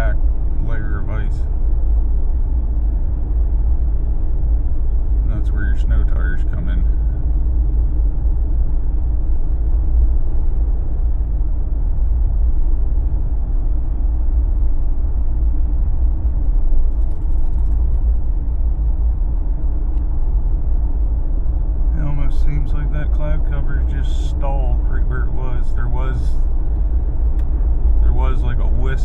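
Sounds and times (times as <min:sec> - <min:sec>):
car engine drone: 0:00.0 - 0:29.0
tyre road rumble: 0:00.0 - 0:29.0.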